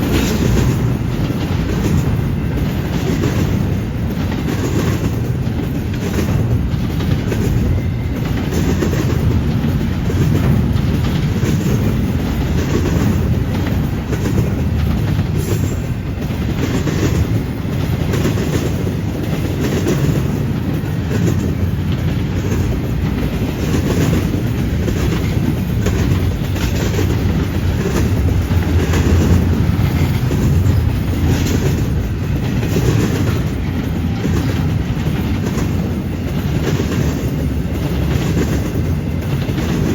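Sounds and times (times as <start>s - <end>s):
freight train rumbling: 0.0s - 39.9s
wheels clacking on rail joints: 0.0s - 39.9s.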